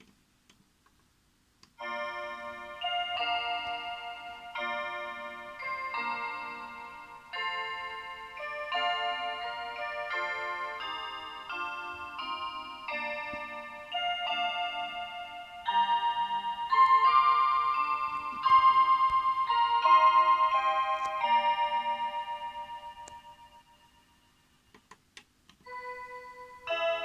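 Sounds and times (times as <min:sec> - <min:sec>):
electronic chime melody: 0:01.8 - 0:24.4, 0:25.7 - 0:27.0.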